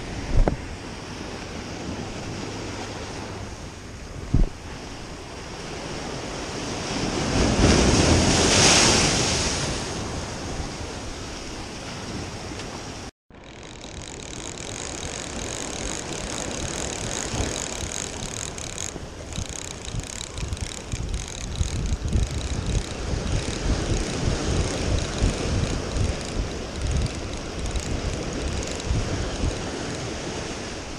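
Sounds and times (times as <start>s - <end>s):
wind buffeting microphone: 0.0s - 12.6s, 13.4s - 30.9s.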